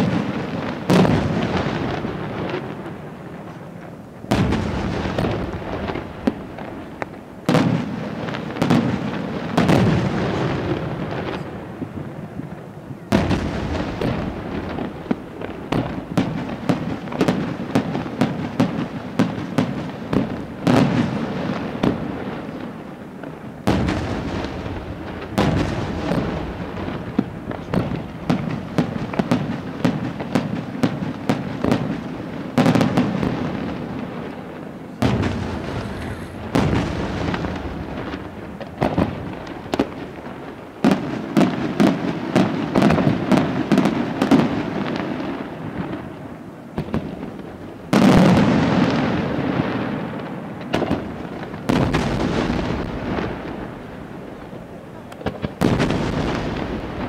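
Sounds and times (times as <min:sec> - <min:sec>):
rapid sharp firework bangs: 0:00.0 - 0:03.1, 0:04.3 - 0:11.5, 0:13.1 - 0:46.1, 0:46.8 - 0:54.6, 0:55.2 - 0:57.0
firework booms with echoes: 0:00.0 - 0:57.0.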